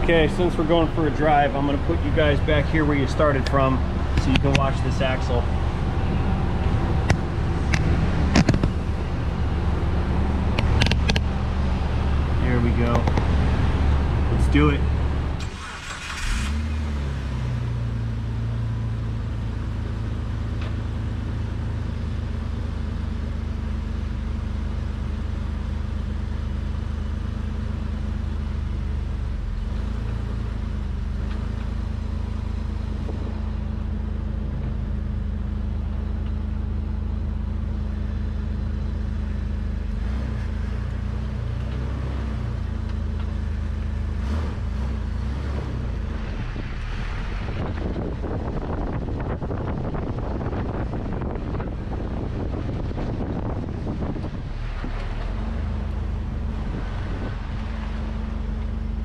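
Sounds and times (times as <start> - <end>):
car engine running: 0.0 - 59.0
road noise: 0.0 - 59.0.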